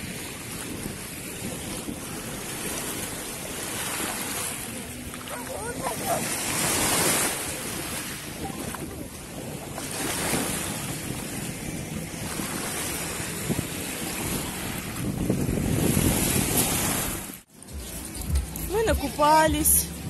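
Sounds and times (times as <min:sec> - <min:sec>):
small waves splashing: 0:00.0 - 0:20.0
wind noise on microphone: 0:00.0 - 0:20.0.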